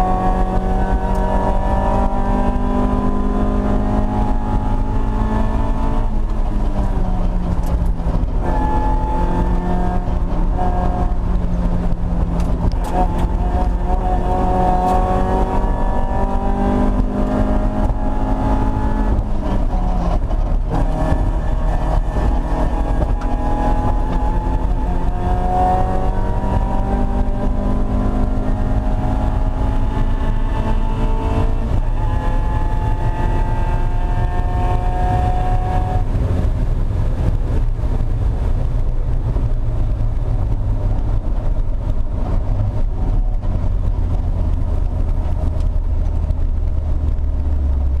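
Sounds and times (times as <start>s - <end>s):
race car engine accelerating: 0.0s - 48.0s
road and wind noise rumble: 0.0s - 48.0s.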